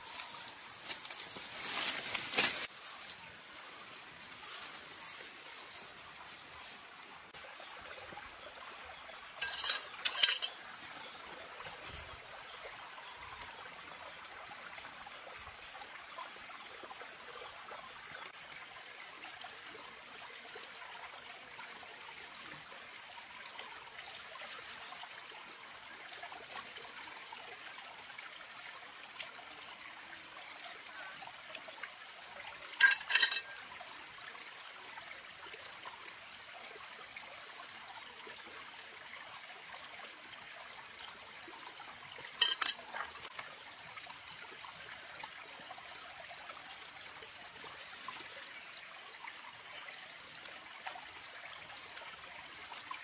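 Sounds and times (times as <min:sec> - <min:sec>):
water trickling: 0:00.0 - 0:53.0.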